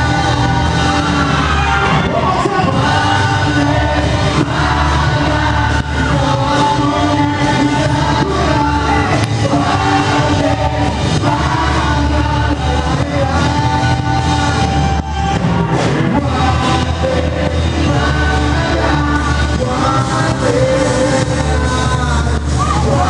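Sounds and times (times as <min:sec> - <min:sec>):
person singing lead vocal: 0:00.0 - 0:23.0
rock band playing: 0:00.0 - 0:23.0.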